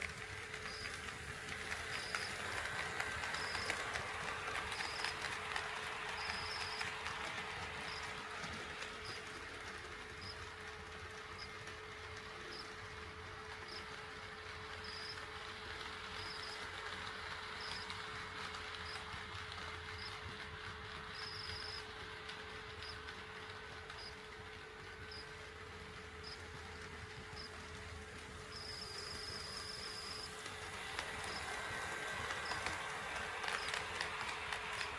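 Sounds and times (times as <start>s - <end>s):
model train motor hum: 0.0s - 11.6s, 12.2s - 34.9s.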